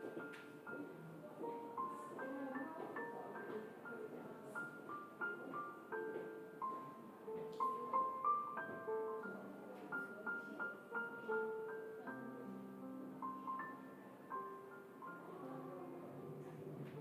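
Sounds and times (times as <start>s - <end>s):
faint room hiss: 0.0s - 17.0s
gentle keyboard melody: 0.0s - 17.0s.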